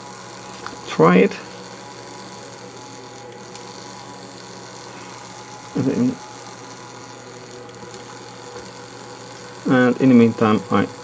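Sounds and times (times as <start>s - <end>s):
electric motor hum and whine: 0.0s - 11.0s.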